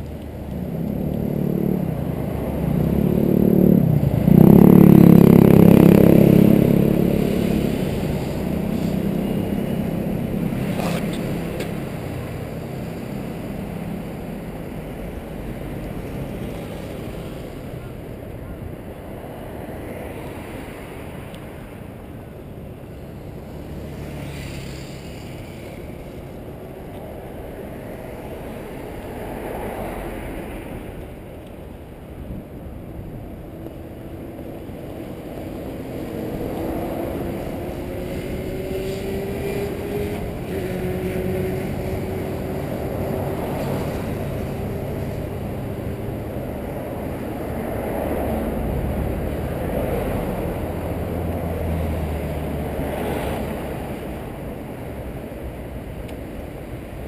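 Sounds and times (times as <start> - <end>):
wind rumbling on microphone: 0.0 - 24.0, 24.7 - 57.0
road traffic: 0.0 - 57.0.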